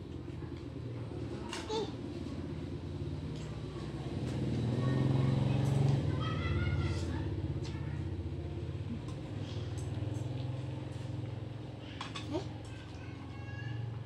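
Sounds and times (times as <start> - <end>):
vehicle engine passing: 0.3 - 14.0.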